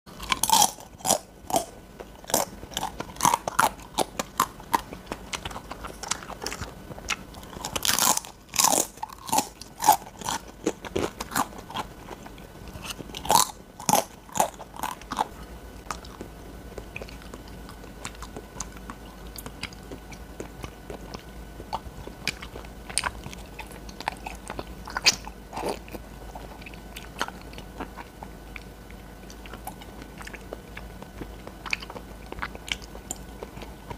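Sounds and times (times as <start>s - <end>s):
crunching and chewing: 0.1s - 33.9s.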